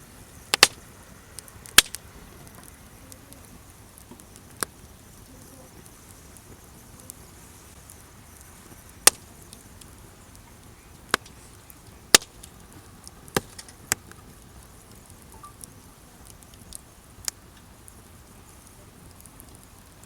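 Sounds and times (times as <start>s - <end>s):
campfire crackling and popping: 0.0s - 20.0s
faint steady hiss: 0.0s - 20.0s.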